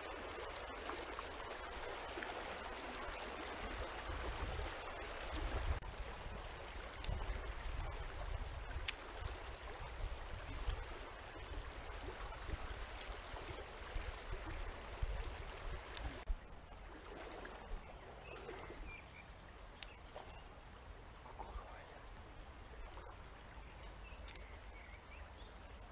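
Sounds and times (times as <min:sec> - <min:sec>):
stream running over stones: 0:00.0 - 0:25.9.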